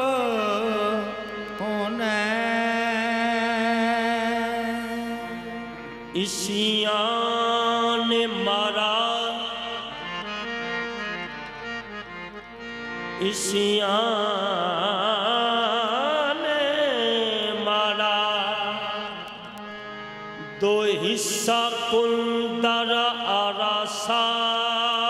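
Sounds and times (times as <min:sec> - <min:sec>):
harmonium melody: 0:00.0 - 0:25.0
wordless singing voice: 0:00.0 - 0:25.0.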